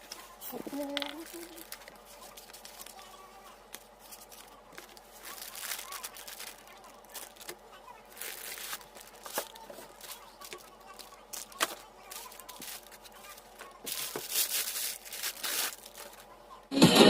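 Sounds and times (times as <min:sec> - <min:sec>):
packaging rustling and tearing: 0:00.0 - 0:16.3.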